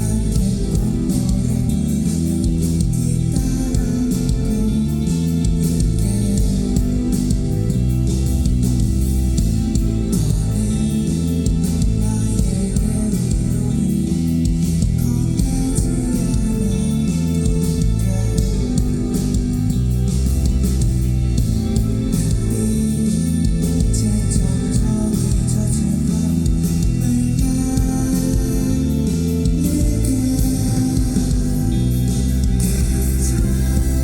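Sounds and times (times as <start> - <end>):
heavy bass line: 0.0 - 34.0
live band playing: 0.0 - 34.0.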